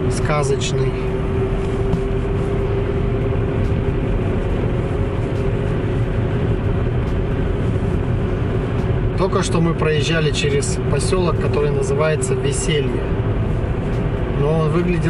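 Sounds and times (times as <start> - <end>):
car road noise rumble: 0.0 - 15.0
constant hum: 0.0 - 15.0.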